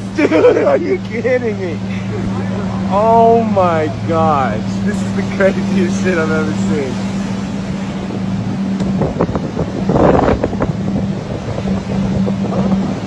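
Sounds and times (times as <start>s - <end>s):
low motor hum: 0.0s - 13.0s
wind buffeting microphone: 0.0s - 13.0s.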